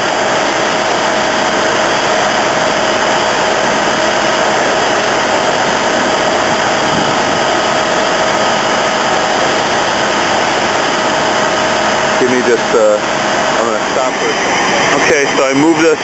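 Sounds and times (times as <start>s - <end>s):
constant whine: 0.0s - 16.0s
pumps and hose streams roaring: 0.0s - 16.0s.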